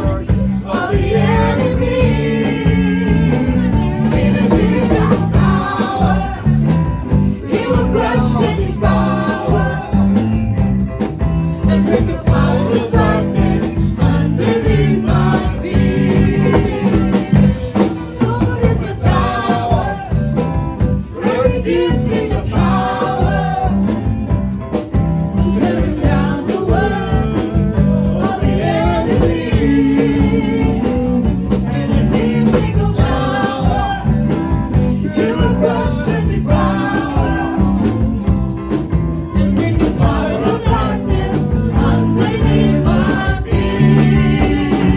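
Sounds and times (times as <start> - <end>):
electric keyboard: 0.0 - 44.9
steady beat: 0.0 - 44.9
voices singing gospel song: 0.0 - 44.9.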